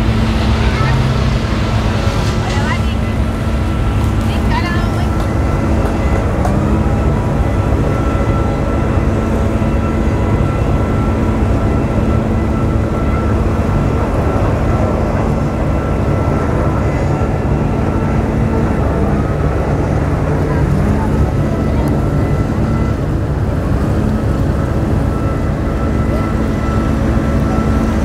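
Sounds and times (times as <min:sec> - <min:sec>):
boat engines droning: 0:00.0 - 0:28.0.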